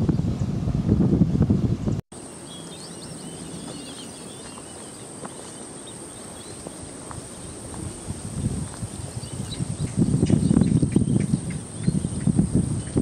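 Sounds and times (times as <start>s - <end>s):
birds chirping: 1.8s - 13.0s.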